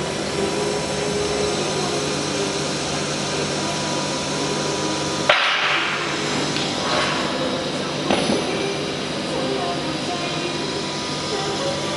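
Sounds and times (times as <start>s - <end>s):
faint whining tones: 0.0s - 11.9s
machinery whirring: 0.0s - 11.9s.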